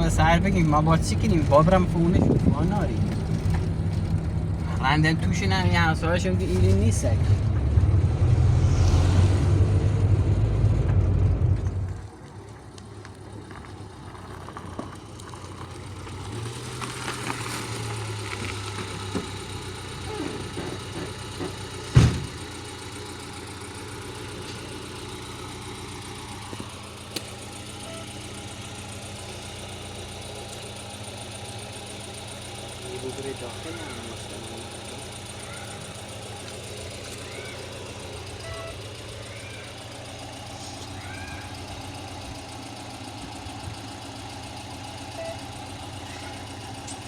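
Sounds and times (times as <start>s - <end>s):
car engine rumbling: 0.0s - 47.0s.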